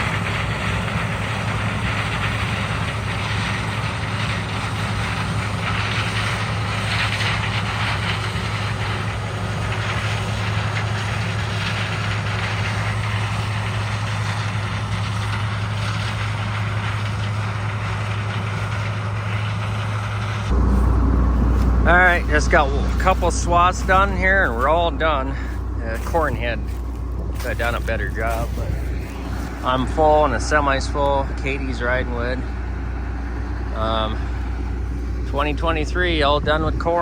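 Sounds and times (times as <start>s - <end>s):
combine harvester drone: 0.0s - 37.0s
constant low hum: 0.0s - 37.0s.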